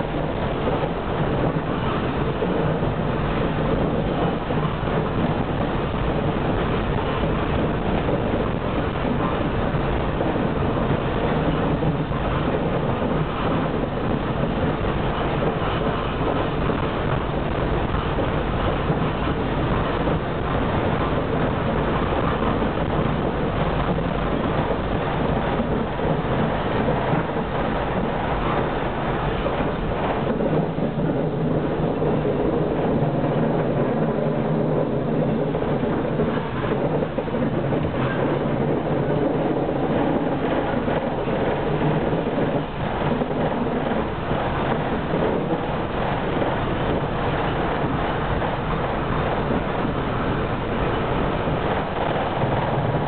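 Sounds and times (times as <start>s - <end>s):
tram wheels on rails: 0.0s - 53.0s.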